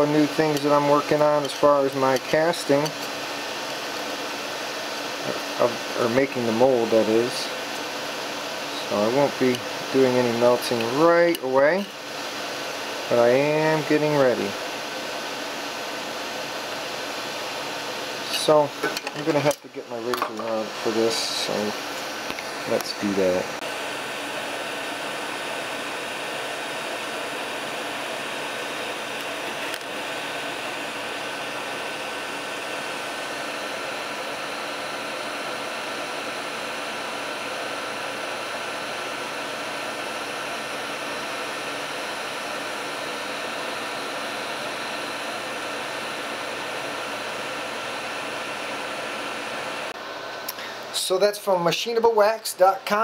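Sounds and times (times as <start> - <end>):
fan whirring: 0.0 - 53.0.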